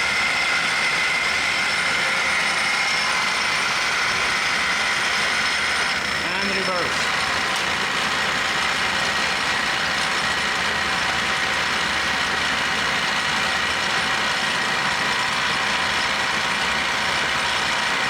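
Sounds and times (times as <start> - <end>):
lathe gears whirring with whine: 0.0 - 18.0.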